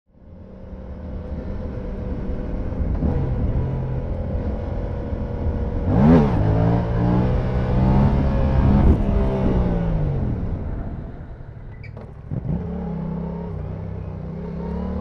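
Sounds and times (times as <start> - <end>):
motorcycle engine revving: 0.3 - 15.0.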